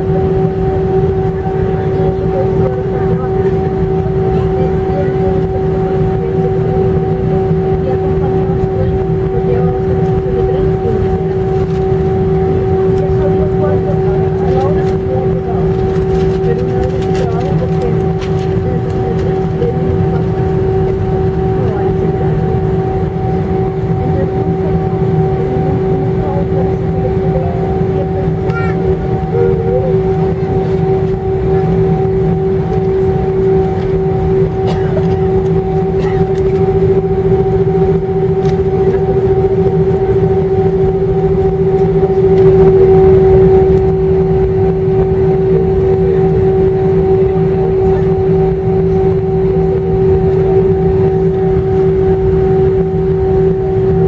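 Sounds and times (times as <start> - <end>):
jet engines idling whine: 0.0 - 54.0
low rumble: 0.0 - 54.0.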